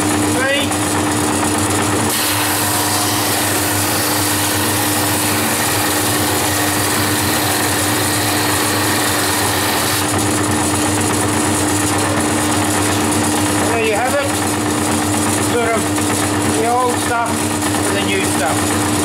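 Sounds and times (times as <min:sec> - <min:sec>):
drum sander motor humming: 0:00.0 - 0:19.0.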